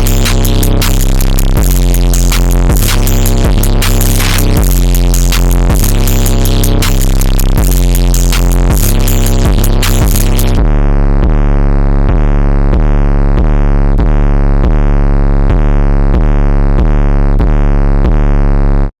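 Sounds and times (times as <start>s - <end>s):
distorted bass synth: 0.0s - 18.9s.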